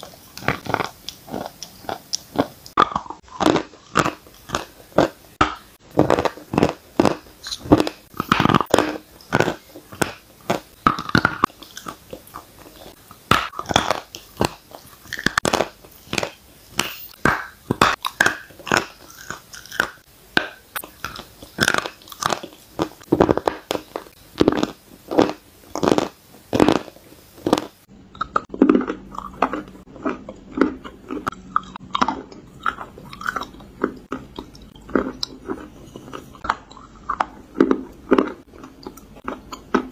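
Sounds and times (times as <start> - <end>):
chewing crunchy chalk: 0.0 - 39.9
faint steady hum: 0.0 - 39.9.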